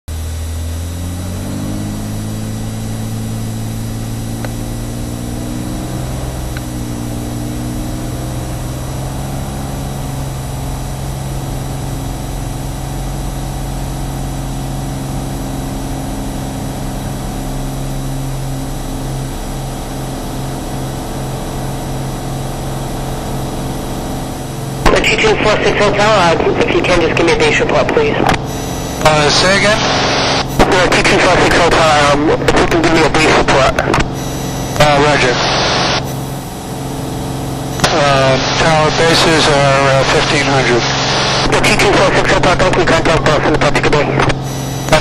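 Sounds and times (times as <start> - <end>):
propeller aircraft engine: 0.0 - 45.0.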